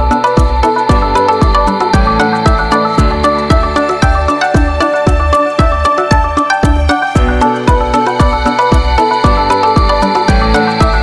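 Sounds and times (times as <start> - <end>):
held synth notes: 0.0 - 11.0
kick drum beat: 0.0 - 11.0.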